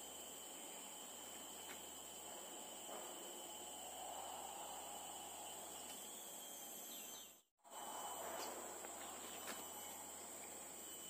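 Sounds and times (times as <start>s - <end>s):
background hiss: 0.0s - 11.0s
chorus of forest insects: 0.0s - 11.0s.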